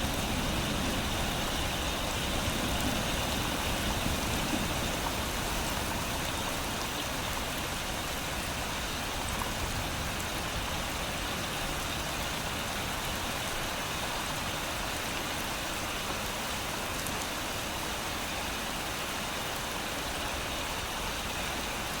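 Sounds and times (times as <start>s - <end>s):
rain falling on leaves: 0.0s - 22.0s.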